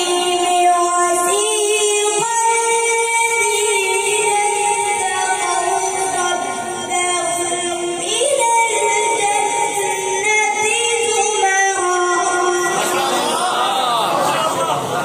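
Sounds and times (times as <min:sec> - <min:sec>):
boy reciting in melodic chant: 0:00.0 - 0:15.0.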